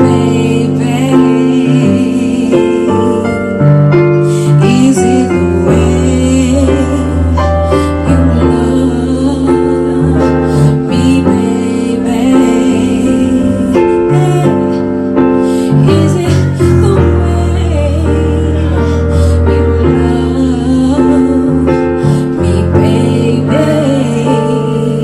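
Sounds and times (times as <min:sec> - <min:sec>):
held keyboard chords: 0:00.0 - 0:25.0
woman singing into microphone: 0:00.0 - 0:25.0.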